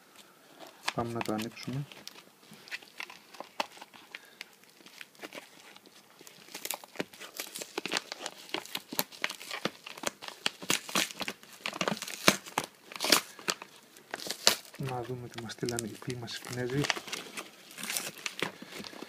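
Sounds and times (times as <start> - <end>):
padded mailer crinkling and tearing: 0.6 - 19.0.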